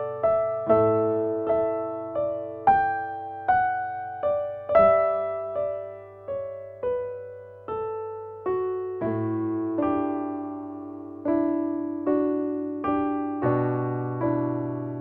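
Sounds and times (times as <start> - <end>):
slow piano notes: 0.0 - 15.0.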